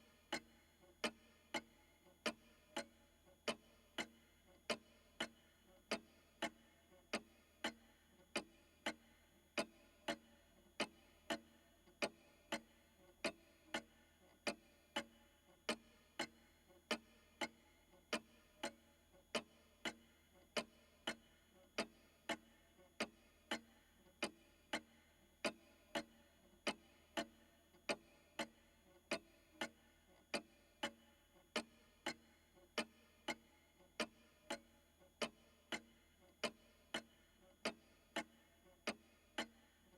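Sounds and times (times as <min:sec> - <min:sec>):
pendulum clock ticking: 0:00.0 - 0:39.9.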